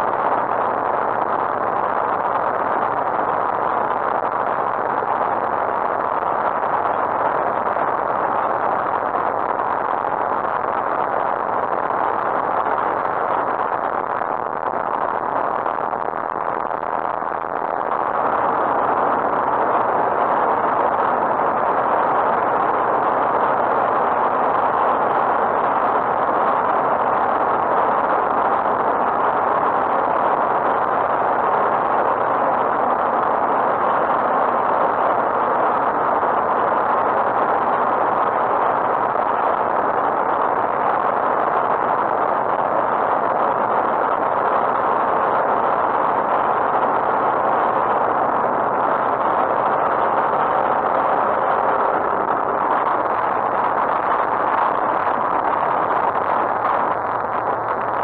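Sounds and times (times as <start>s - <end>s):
rushing air: 0.0s - 58.0s.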